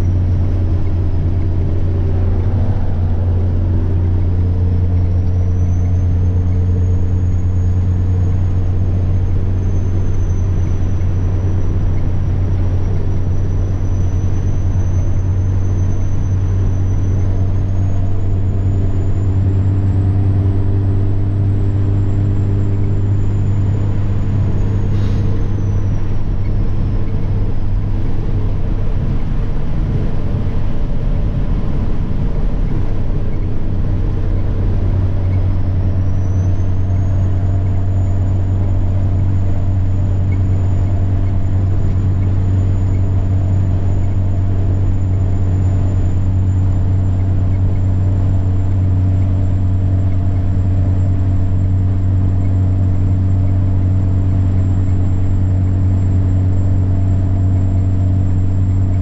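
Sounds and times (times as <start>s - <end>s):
truck diesel engine drone: 0.0s - 59.0s
turbo whine: 0.0s - 59.0s.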